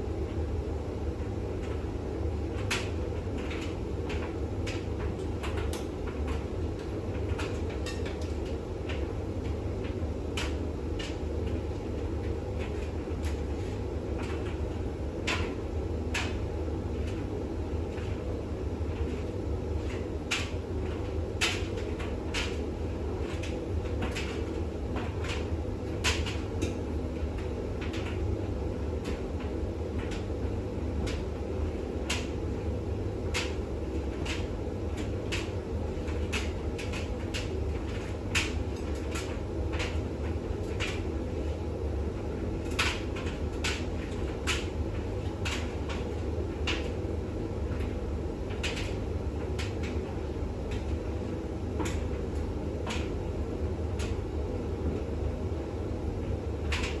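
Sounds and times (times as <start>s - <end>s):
washing machine spinning hum: 0.0s - 57.0s.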